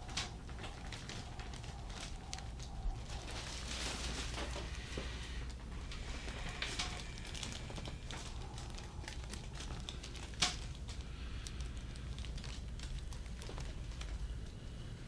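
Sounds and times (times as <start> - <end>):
soft rustles: 0.0 - 15.0
steady low hum: 0.0 - 15.0.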